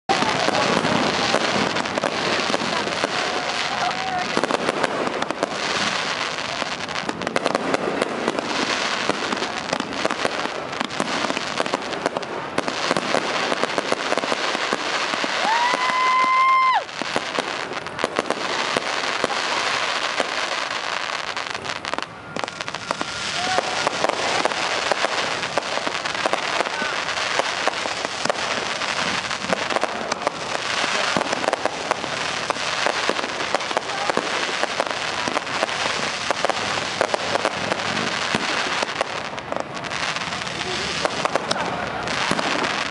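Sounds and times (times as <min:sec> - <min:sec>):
fireworks crackling and banging: 0:00.0 - 0:42.9
fireworks whistles: 0:00.1 - 0:42.9.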